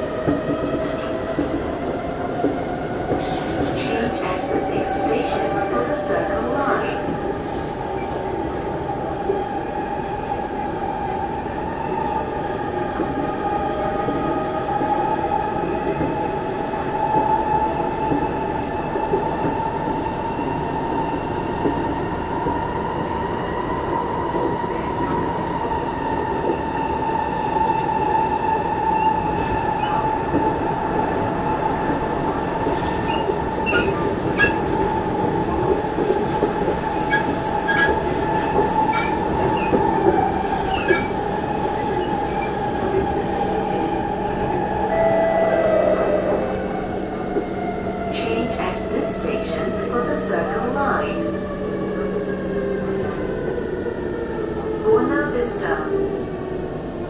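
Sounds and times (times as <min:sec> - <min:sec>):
train rumble and whine: 0:00.0 - 0:57.0.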